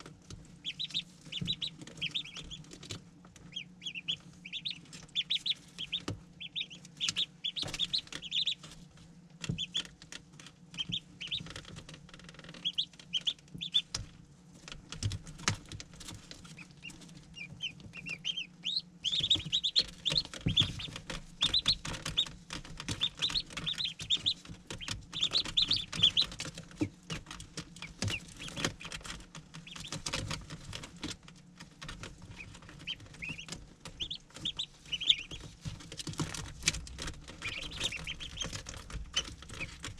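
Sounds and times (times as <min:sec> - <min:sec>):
ducklings peeping: 0:00.0 - 0:39.9
small taps and pattering: 0:00.0 - 0:39.9.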